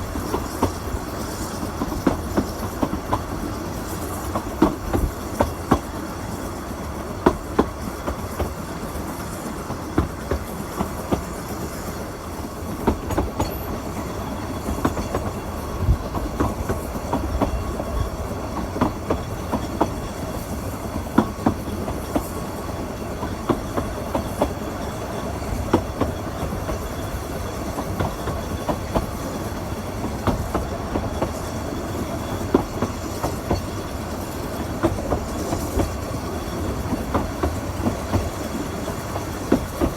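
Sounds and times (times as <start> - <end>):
train rumbling along: 0.0 - 39.9
wheels clicking over rail joints: 0.0 - 39.9.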